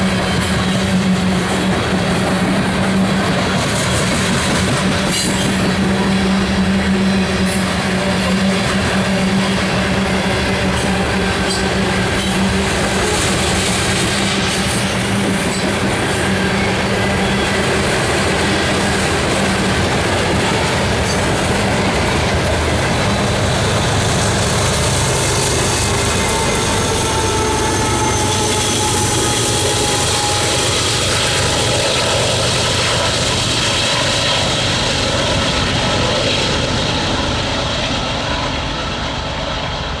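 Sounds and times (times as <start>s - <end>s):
diesel locomotives under load: 0.0s - 40.0s
freight train cars rolling: 0.0s - 40.0s.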